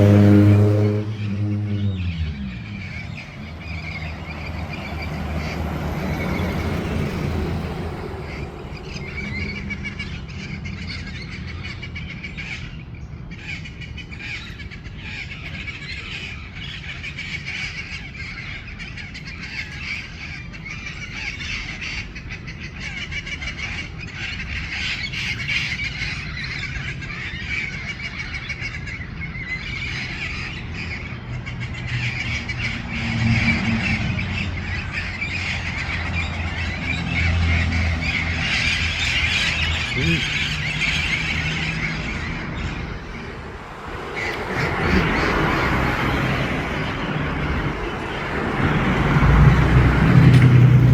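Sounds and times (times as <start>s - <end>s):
parrots squawking and chattering: 1.9s - 50.9s.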